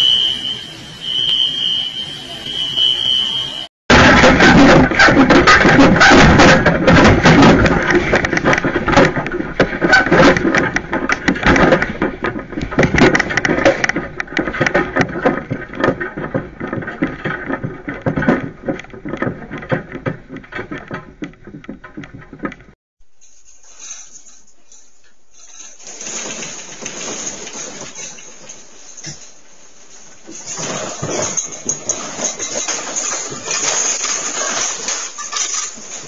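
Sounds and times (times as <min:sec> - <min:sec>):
garage contents rattling: 0:03.9 - 0:36.0.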